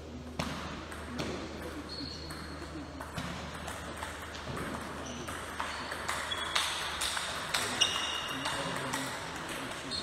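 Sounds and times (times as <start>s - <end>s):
table tennis ball hits: 0.2s - 10.0s.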